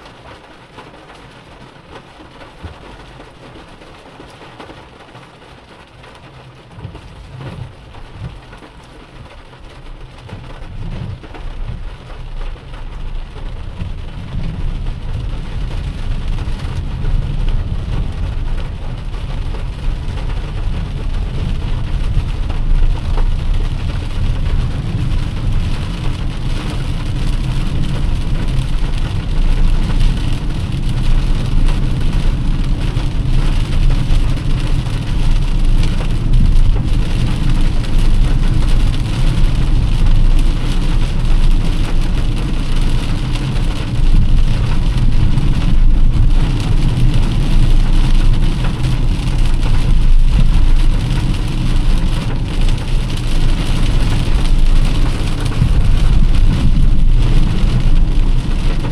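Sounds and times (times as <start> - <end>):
engine and road rumble: 0.0 - 58.9
heavy rain on a car: 0.0 - 58.9.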